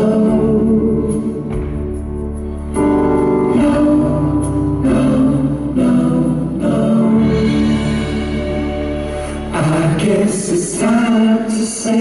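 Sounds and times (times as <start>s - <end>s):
male vocal group singing harmony: 0.0s - 1.6s, 3.4s - 12.0s.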